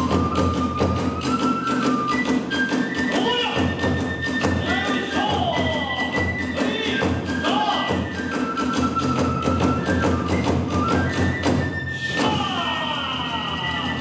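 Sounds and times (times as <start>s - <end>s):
bamboo flute long notes: 0.0s - 14.0s
drums and hand cymbals: 0.0s - 14.0s.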